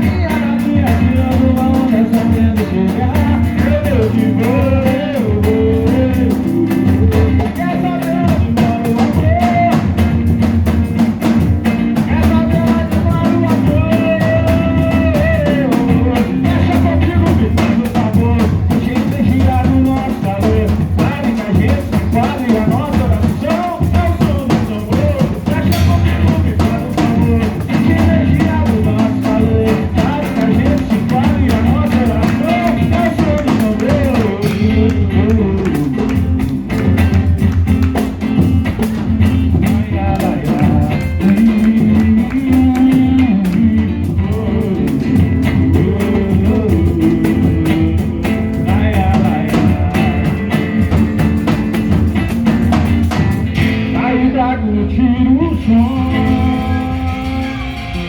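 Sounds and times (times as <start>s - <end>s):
person singing: 0.0s - 52.0s, 53.5s - 58.0s
live band playing: 0.0s - 58.0s.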